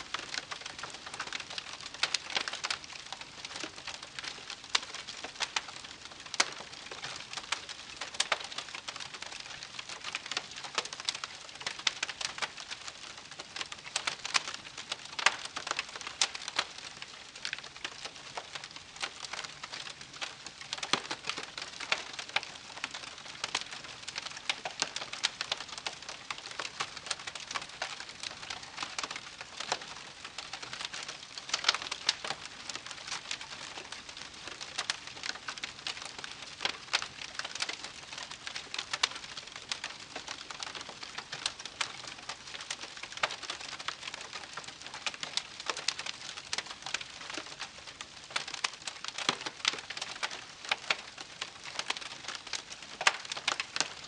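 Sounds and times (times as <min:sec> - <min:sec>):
campfire crackling: 0:00.1 - 0:54.0.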